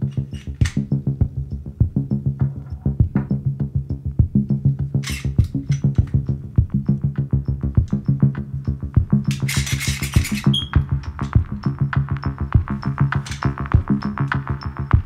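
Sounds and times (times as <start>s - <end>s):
low synth bass: 0.6s - 9.4s, 10.2s - 15.0s
drum machine beat: 0.6s - 15.0s.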